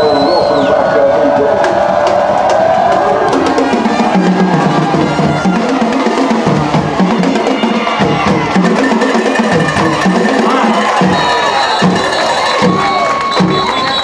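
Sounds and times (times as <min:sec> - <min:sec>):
music with drums and percussion: 0:01.6 - 0:14.0.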